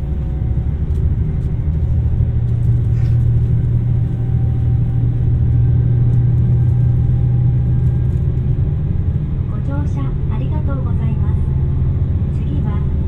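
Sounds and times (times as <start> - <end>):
diesel engine drone: 0.0 - 13.0
train running rumble: 0.0 - 13.0.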